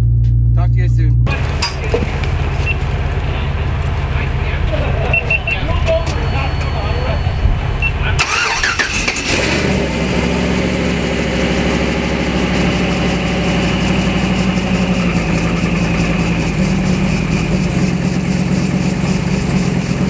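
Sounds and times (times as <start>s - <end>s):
diesel engine idling: 1.3s - 20.0s.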